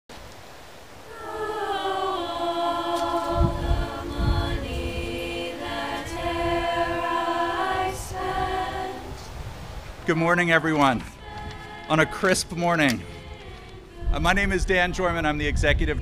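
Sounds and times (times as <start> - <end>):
women singing a cappella: 1.0 - 9.6, 10.5 - 15.0.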